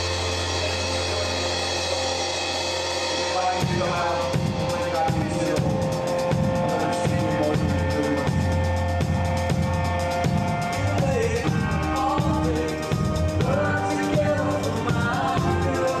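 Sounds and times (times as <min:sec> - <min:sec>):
drum kit beat: 0:00.0 - 0:16.0
electric bass guitar: 0:00.0 - 0:16.0.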